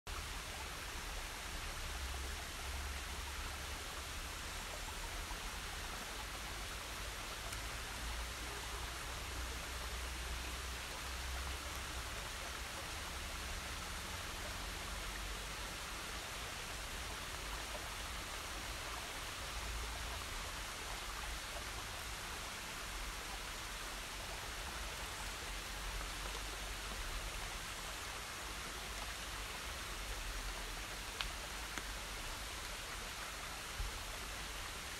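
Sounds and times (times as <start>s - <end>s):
wet forest ambience rushing: 0.1s - 34.9s.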